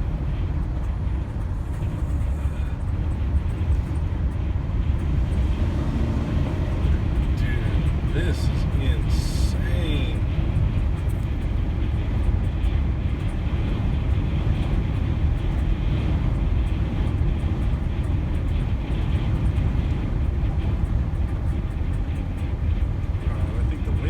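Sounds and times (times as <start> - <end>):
vehicle road and wind rumble: 0.0 - 24.0.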